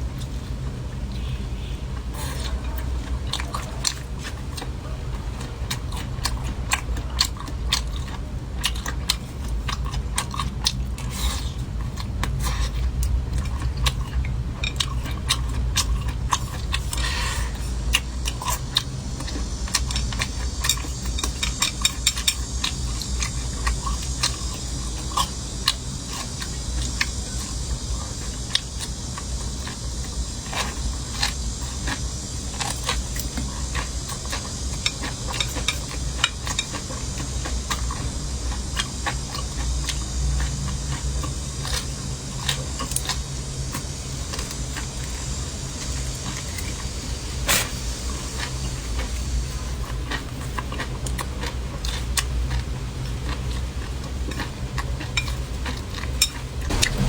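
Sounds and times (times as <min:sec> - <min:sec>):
chewing crunches: 0:00.0 - 0:57.0
low hum and hiss: 0:00.0 - 0:57.0.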